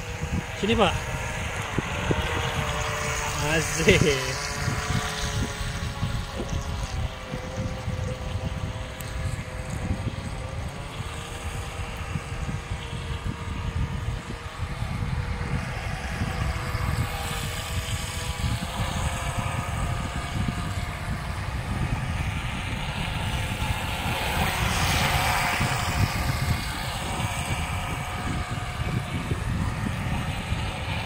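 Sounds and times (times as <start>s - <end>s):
small electric motor whining: 0.0s - 31.0s.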